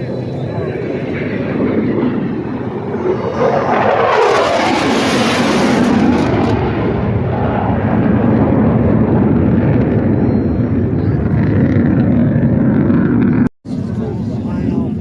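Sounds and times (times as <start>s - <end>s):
jets flying past low: 0.0s - 15.0s.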